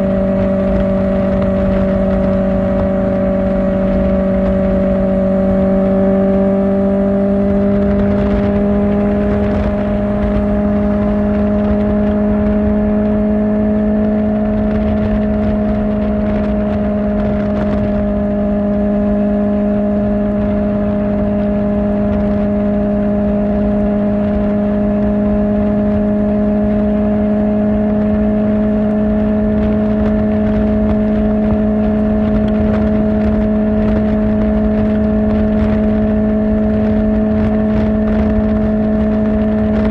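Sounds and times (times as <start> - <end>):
low rushing noise: 0.0 - 39.9
motorcycle engine cruising: 0.0 - 39.9.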